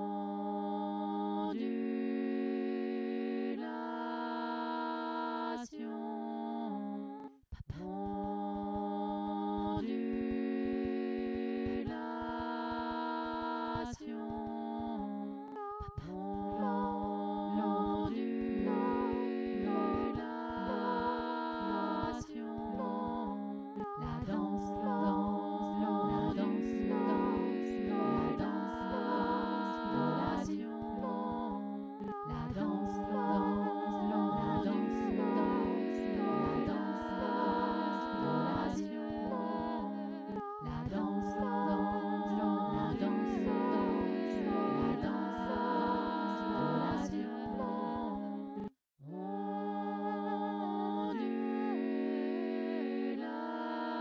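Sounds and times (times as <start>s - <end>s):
voices humming a cappella: 0.0s - 54.0s.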